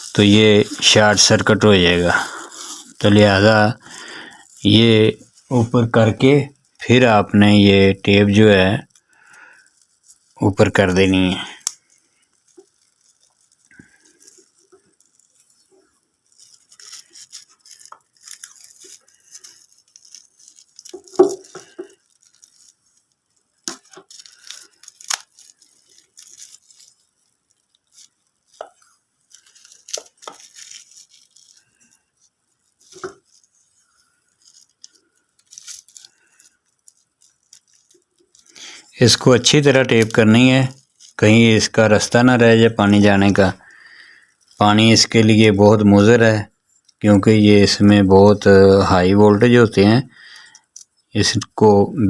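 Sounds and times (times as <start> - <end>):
tape peeling off roll: 0.0 - 45.4.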